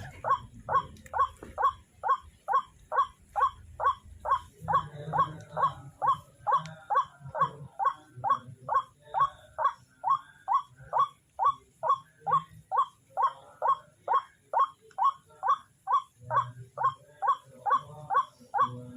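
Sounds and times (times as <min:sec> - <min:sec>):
other bird calls: 0:00.0 - 0:18.9
waterhen calling repeatedly: 0:00.0 - 0:18.9.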